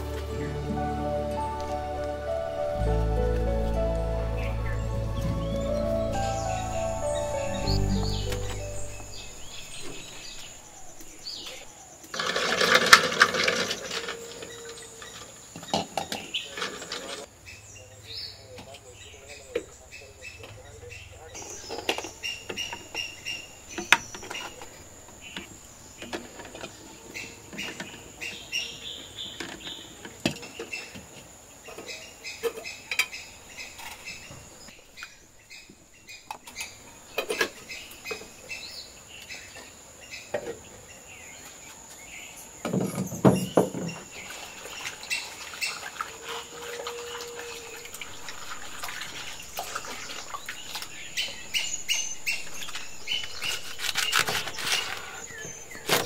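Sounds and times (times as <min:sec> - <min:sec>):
birds chirping: 0:00.0 - 0:12.4, 0:13.5 - 0:31.0, 0:31.6 - 0:56.0.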